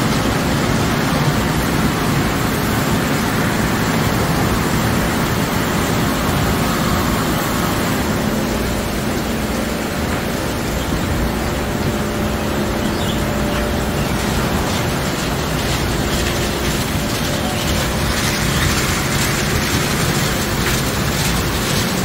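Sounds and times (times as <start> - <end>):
car wash water spray rushing: 0.0 - 22.0.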